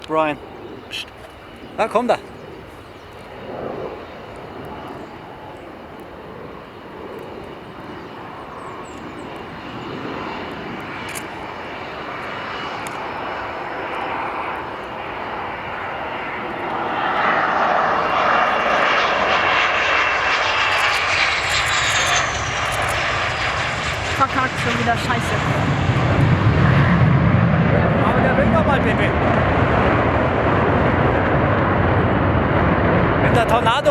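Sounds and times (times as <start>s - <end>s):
high jet whine falling in pitch: 0.0s - 33.9s
jet engines running: 0.0s - 33.9s.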